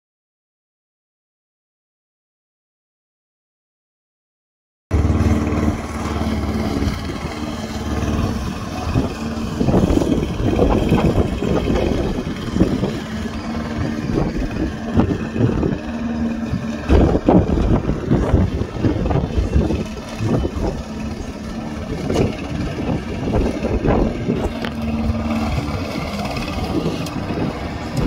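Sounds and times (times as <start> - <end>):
lawnmower engine mowing grass: 4.9 - 28.0
rushes of noise: 4.9 - 28.0.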